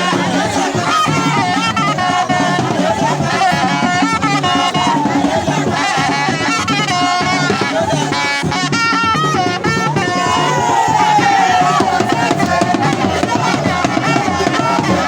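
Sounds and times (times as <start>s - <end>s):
music with drums and percussion: 0.0s - 15.0s.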